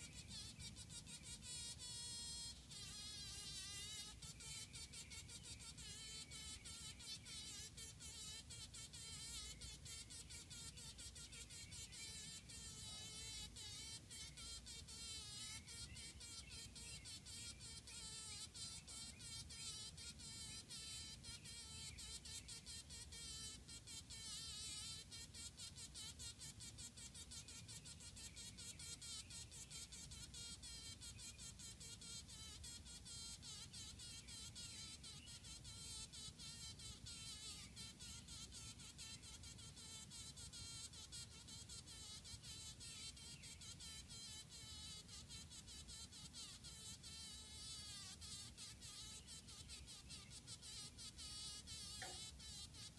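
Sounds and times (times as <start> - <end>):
bee buzzing: 0.0 - 52.9.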